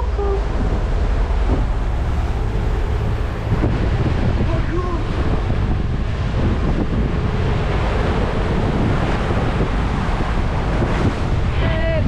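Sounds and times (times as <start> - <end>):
breaking waves and spray: 0.0 - 12.0
wind buffeting microphone: 0.0 - 12.0.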